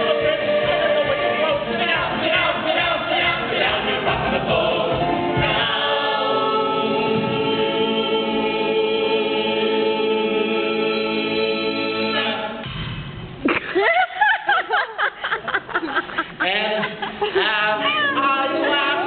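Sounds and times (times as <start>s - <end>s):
ensemble singing in chorus: 0.0s - 12.8s, 16.4s - 19.0s.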